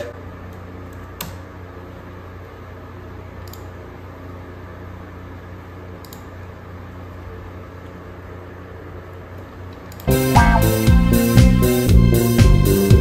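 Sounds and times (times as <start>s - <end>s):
laptop cooling fan humming: 0.0s - 13.0s.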